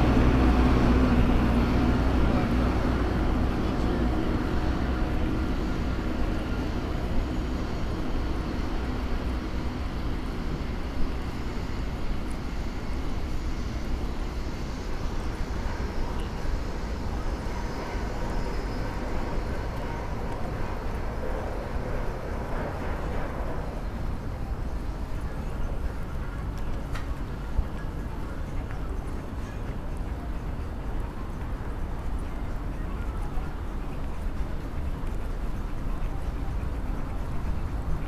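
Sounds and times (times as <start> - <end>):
distant engines rumbling: 0.0 - 38.0.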